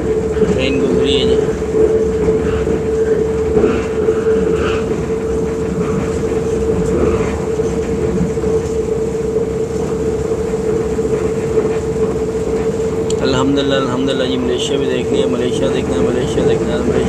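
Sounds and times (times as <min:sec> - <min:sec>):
constant humming tone: 0:00.0 - 0:17.0
train running rumble: 0:00.0 - 0:17.0.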